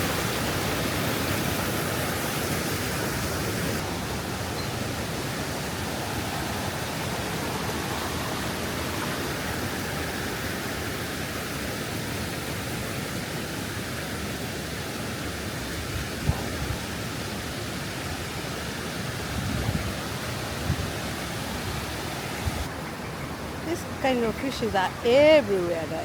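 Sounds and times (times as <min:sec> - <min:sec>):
water rushing over cascades: 0:00.0 - 0:26.0.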